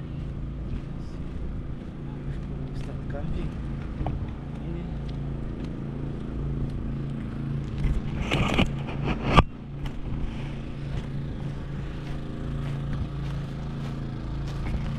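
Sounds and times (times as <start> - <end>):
low engine hum: 0.0 - 14.9.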